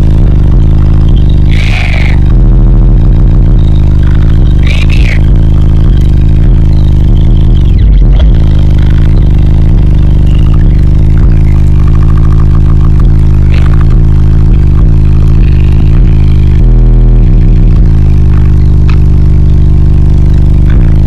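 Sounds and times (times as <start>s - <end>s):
distorted bass-heavy music: 0.0s - 21.0s.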